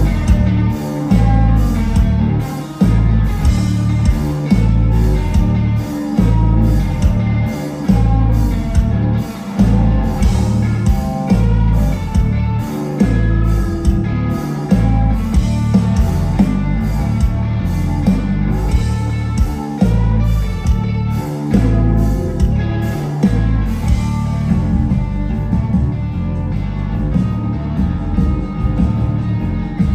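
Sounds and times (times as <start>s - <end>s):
drum kit beat: 0.0s - 29.9s
electric bass: 0.0s - 29.9s
electric guitars: 0.0s - 29.9s.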